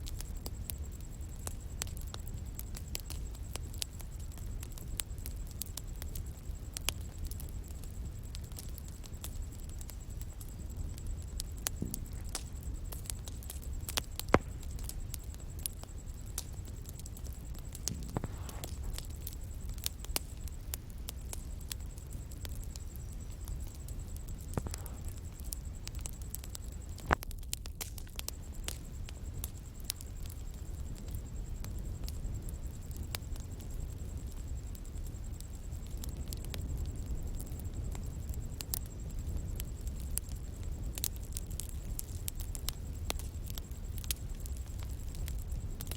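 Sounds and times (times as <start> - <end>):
bonfire crackling and popping: 0.0 - 45.9
low rumble of flames: 0.0 - 45.9.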